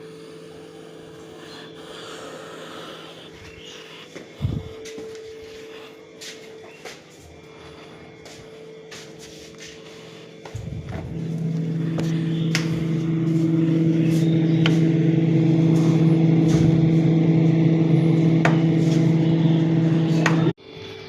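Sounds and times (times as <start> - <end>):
electric motor humming: 0.0 - 20.6.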